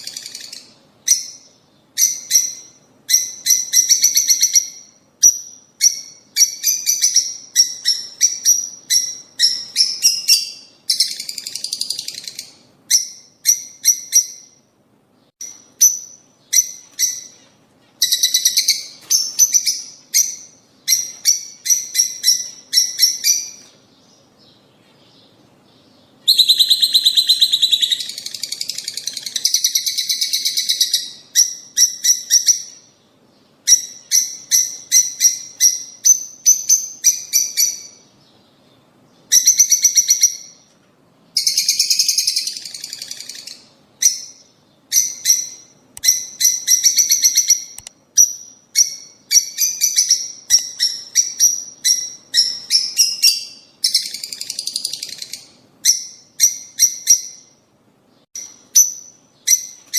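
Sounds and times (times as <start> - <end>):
lovebirds chirping and chattering: 0.0 - 40.7, 41.4 - 59.9.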